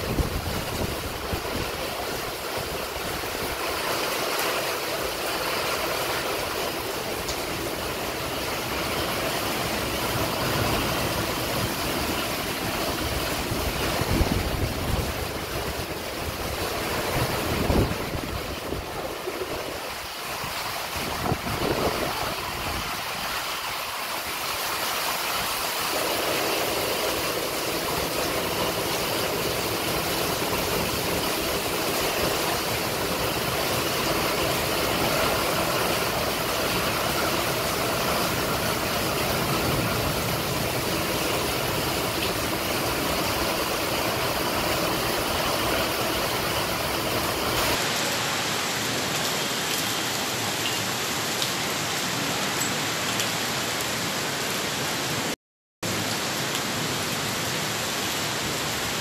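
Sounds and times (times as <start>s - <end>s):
heavy rain in strong wind: 0.0s - 59.0s.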